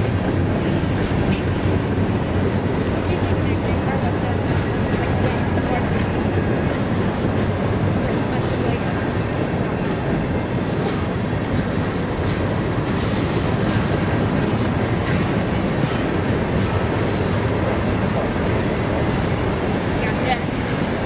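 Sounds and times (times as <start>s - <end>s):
steel wheels running on rail: 0.0s - 21.0s
wheels clacking over rail joints: 0.0s - 21.0s.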